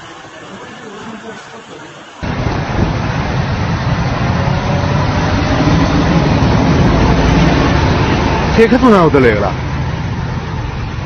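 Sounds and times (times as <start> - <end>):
cars passing: 0.0 - 11.0
heavy vehicle engine rumble: 0.0 - 11.0.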